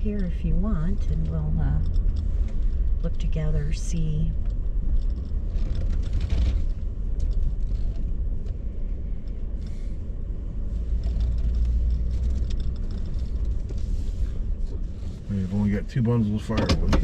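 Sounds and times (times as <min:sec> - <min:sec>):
faint ticks and rattles: 0:00.0 - 0:10.0, 0:10.7 - 0:15.1
truck rumbling from inside cab: 0:00.0 - 0:17.0.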